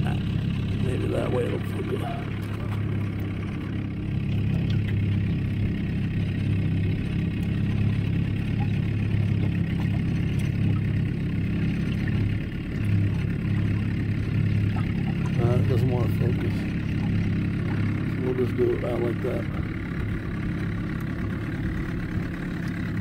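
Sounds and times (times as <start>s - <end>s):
outboard motor humming: 0.0s - 23.0s.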